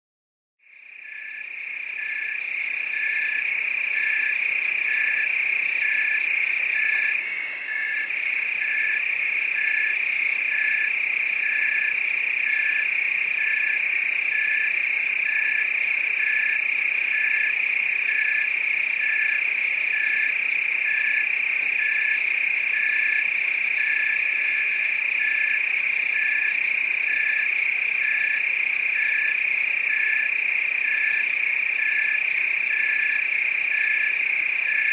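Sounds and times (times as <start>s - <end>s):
crickets trilling: 0.7s - 34.9s
frogs pulsing call: 0.7s - 34.9s.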